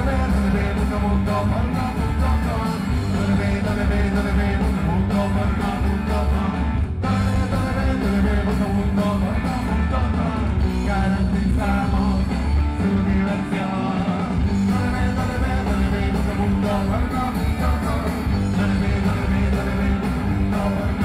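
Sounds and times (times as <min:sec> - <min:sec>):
live rock band: 0:00.0 - 0:21.0.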